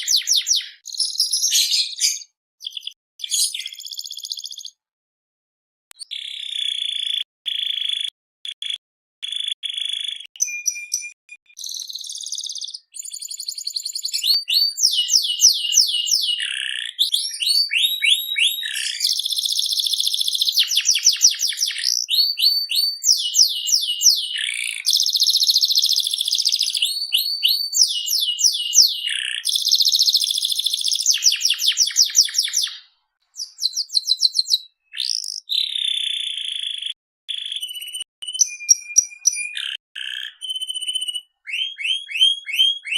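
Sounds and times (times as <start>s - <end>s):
canary singing trills: 0.0s - 4.8s, 9.7s - 42.9s.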